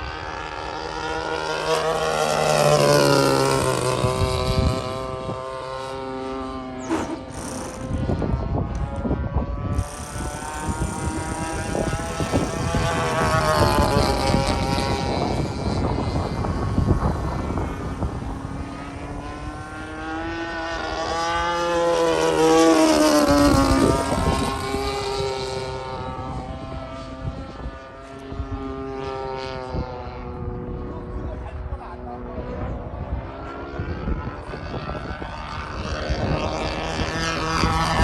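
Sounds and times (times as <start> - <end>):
model airplane engine passing by: 0.0 - 38.0.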